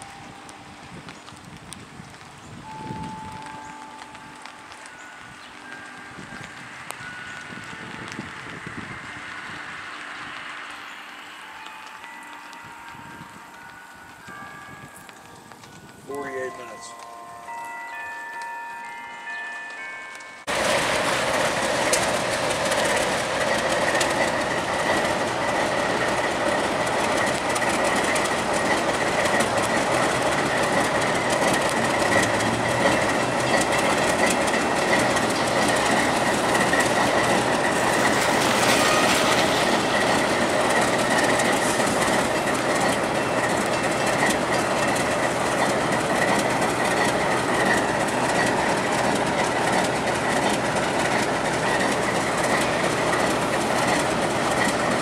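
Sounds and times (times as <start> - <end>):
diesel locomotive engines rumbling: 0.0 - 55.0
wheels clicking over rail joints: 0.0 - 55.0.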